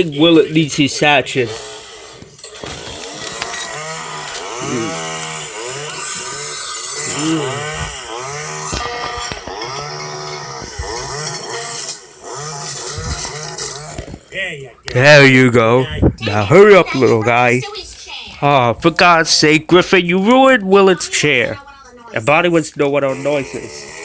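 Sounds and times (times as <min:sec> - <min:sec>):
chainsaw engine revving and idling: 0:00.0 - 0:15.4, 0:20.1 - 0:24.0.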